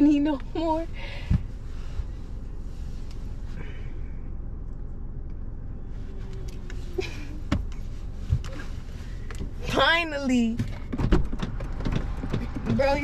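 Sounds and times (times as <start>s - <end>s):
low rumble inside car: 0.0s - 13.0s.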